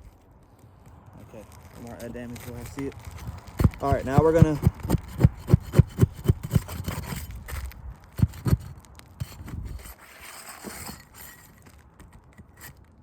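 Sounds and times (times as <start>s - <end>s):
roofing shingle being scraped: 1.4s - 13.0s.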